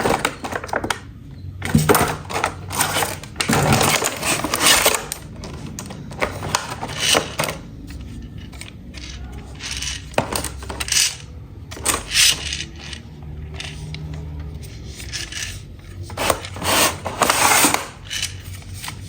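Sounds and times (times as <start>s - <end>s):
plastic toy pieces clicking: 1.8s - 19.0s.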